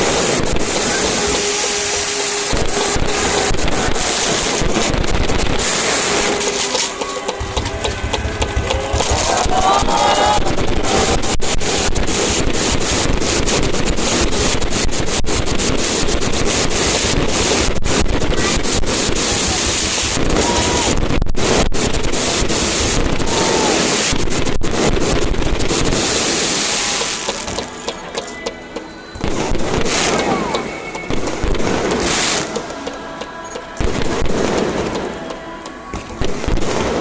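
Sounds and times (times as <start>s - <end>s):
fireworks crackling and rumbling: 0.0s - 37.0s
fireworks whistling: 0.0s - 37.0s.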